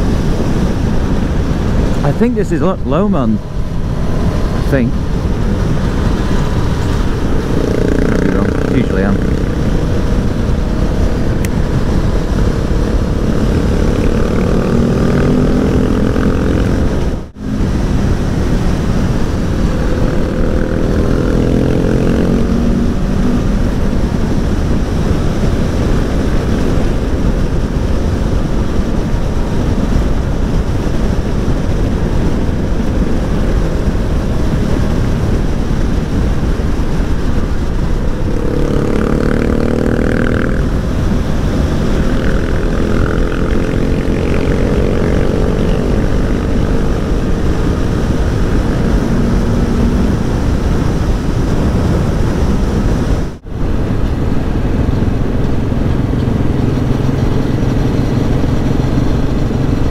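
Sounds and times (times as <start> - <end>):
motorcycle engine: 0.0 - 59.9
wind noise on microphone: 0.0 - 59.9.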